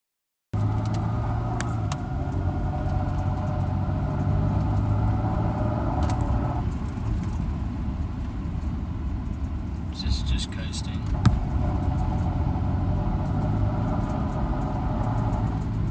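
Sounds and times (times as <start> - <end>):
car engine running: 0.6 - 15.9
high engine whine: 0.6 - 15.9.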